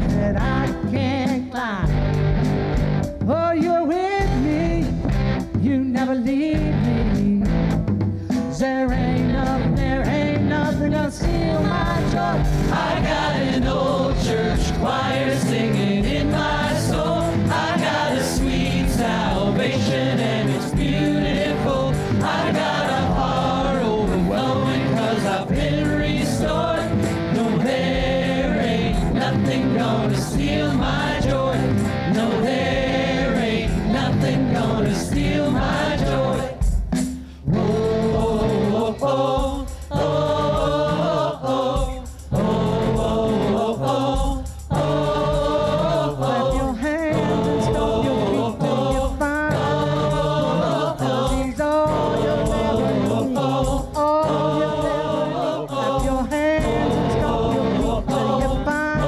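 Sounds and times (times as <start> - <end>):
band accompaniment: 0.0 - 59.0
singers performing gospel song: 0.0 - 59.0.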